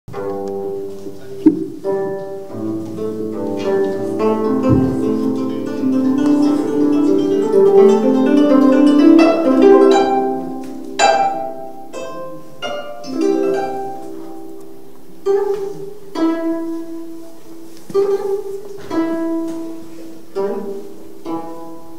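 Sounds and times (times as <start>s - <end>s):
plucked zither melody: 0.1s - 21.9s.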